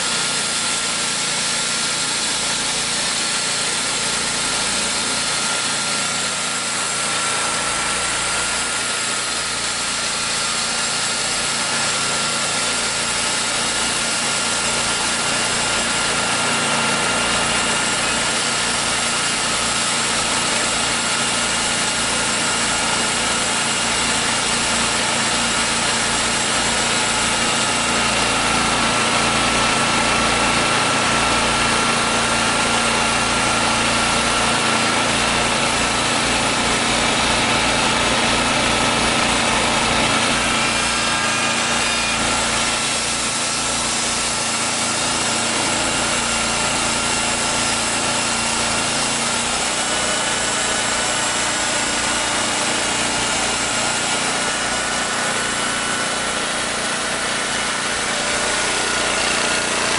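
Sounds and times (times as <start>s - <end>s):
sawmill gas engine running: 0.0s - 59.9s.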